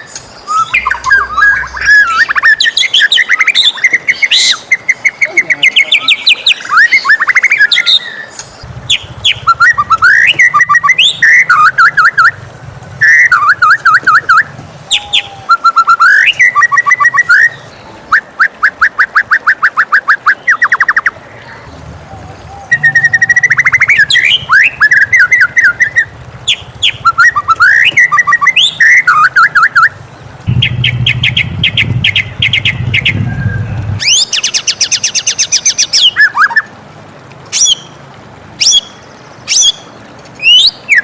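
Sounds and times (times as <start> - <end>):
bird singing whistled phrases: 0.0 - 12.4, 13.0 - 21.2, 22.4 - 36.7, 38.6 - 39.8, 40.4 - 41.0.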